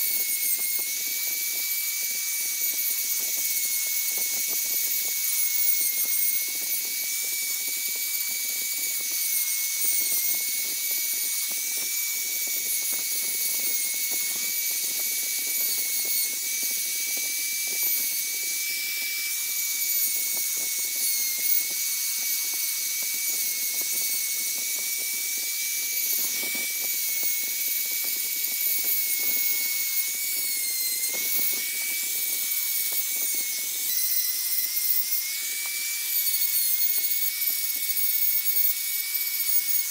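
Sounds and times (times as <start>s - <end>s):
rotary carving tool whining: 0.0s - 39.9s.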